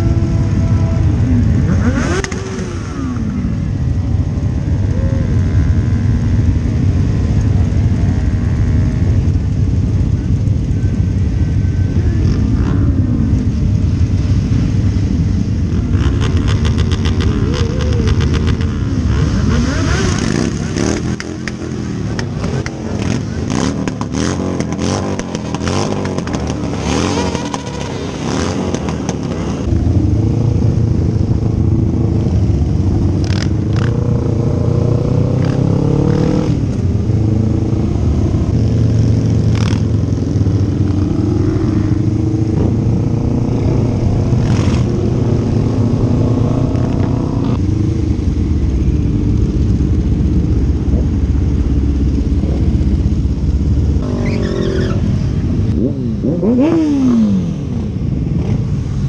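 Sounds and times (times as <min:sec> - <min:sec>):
motorcycle engines idling and revving: 0:00.0 - 0:59.0.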